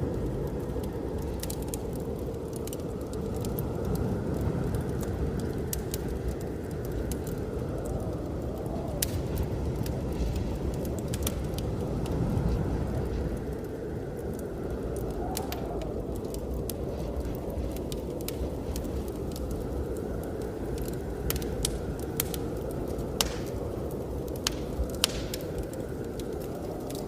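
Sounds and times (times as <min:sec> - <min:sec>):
blizzard wind rushing: 0:00.0 - 0:27.0
wood fire crackling: 0:00.0 - 0:27.0.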